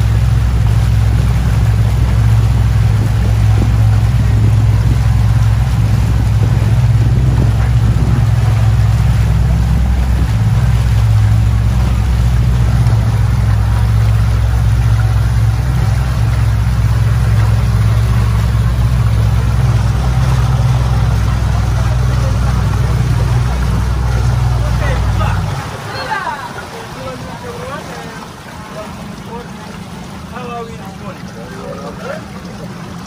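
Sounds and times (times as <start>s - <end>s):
motorboat engine droning: 0.0s - 33.0s
rushing water hiss: 0.0s - 33.0s.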